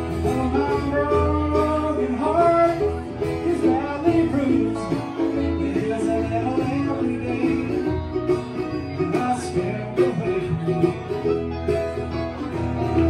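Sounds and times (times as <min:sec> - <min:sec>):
live country band playing: 0:00.0 - 0:13.0
plucked guitar: 0:00.0 - 0:13.0
steady bass: 0:00.0 - 0:13.0.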